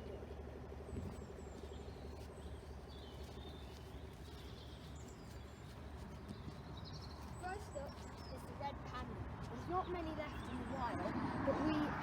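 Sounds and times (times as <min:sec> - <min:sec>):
small birds chirping: 0:00.9 - 0:12.0.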